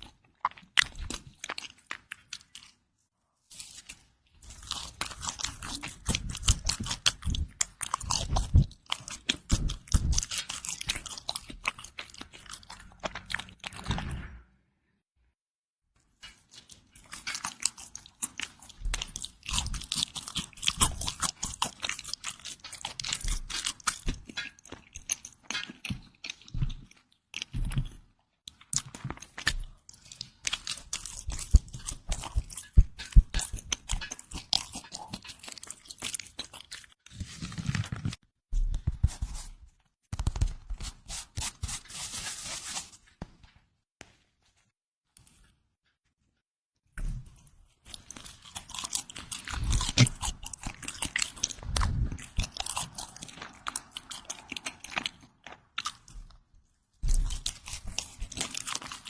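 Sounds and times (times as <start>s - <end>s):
person chewing crusty bread: 0.0s - 14.0s, 16.1s - 39.5s, 47.0s - 59.0s.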